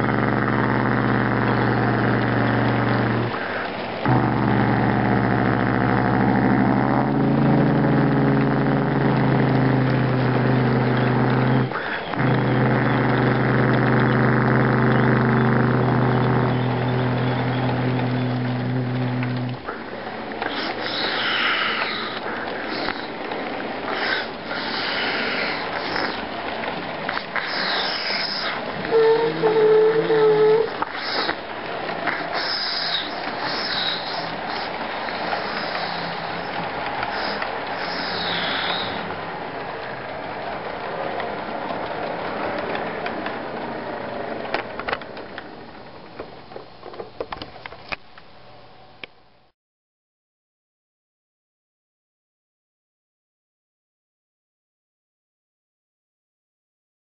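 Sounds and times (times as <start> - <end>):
model train wheels rushing on track: 0.0 - 47.0
wheels clicking over rail joints: 0.0 - 48.3.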